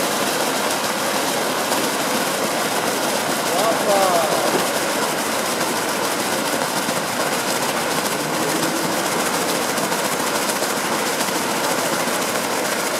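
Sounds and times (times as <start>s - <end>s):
fountain water splashing into pool: 0.0s - 12.9s.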